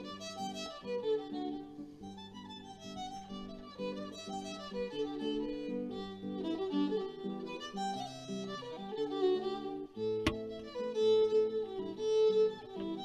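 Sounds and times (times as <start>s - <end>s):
violin melody: 0.0s - 13.0s.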